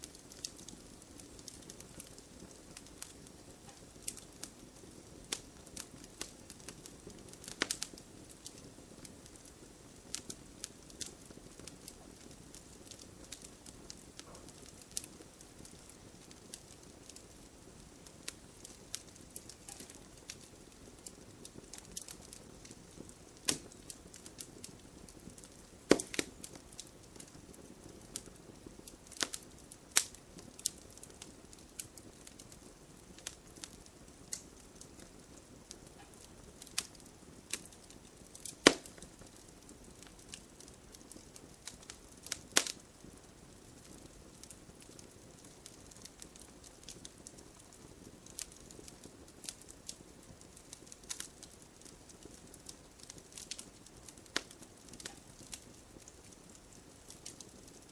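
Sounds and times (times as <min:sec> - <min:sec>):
fire hissing: 0:00.0 - 0:57.8
wood crackling and popping: 0:00.0 - 0:57.9.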